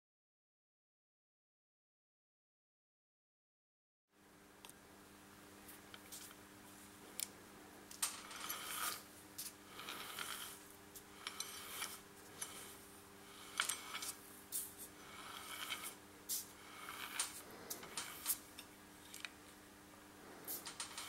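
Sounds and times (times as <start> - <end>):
faint steady hum: 4.1 - 21.0.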